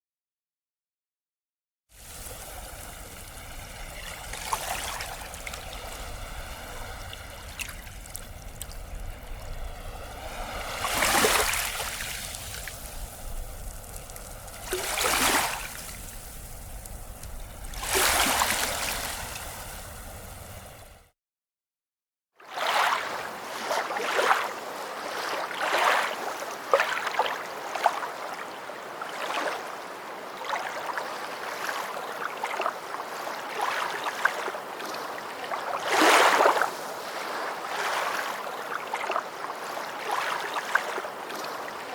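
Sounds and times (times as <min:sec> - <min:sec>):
sea waves washing ashore: 0:02.0 - 0:21.1, 0:22.5 - 0:41.9.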